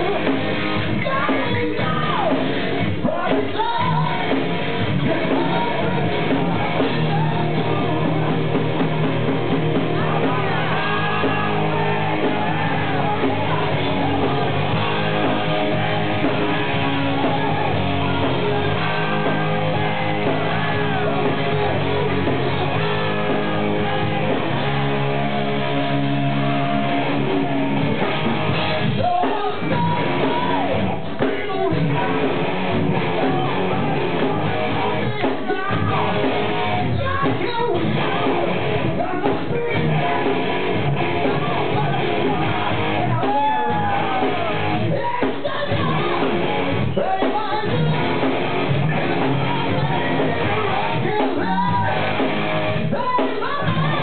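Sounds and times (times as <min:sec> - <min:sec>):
distorted electric guitars: 0:00.0 - 0:54.0
drums: 0:00.0 - 0:54.0
singer shouting and singing: 0:00.0 - 0:54.0.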